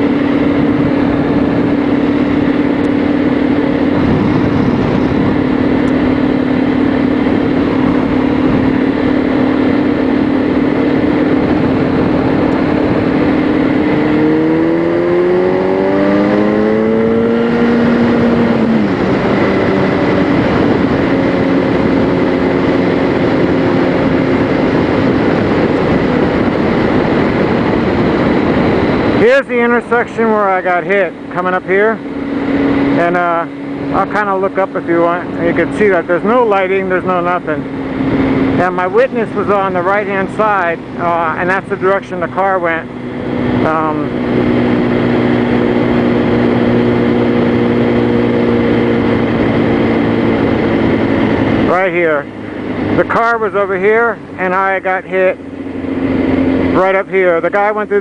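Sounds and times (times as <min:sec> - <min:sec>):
constant rushing noise: 0:00.0 - 0:58.0
motorcycle engine running: 0:00.0 - 0:58.0
wind and road noise: 0:00.0 - 0:58.0.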